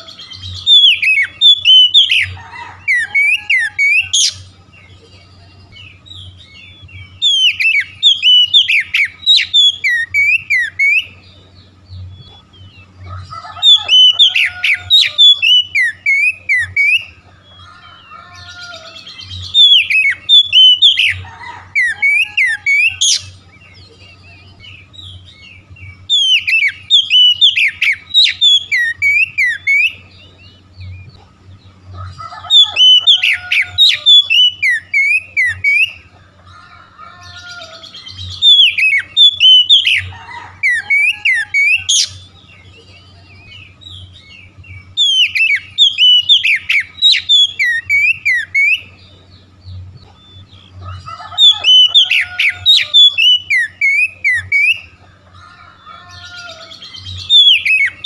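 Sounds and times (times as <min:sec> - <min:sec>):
bird singing whistles and chirps: 0:00.0 - 0:31.8, 0:32.4 - 0:36.0, 0:37.2 - 0:55.0, 0:56.1 - 0:58.0
faint low hum: 0:00.0 - 0:58.0.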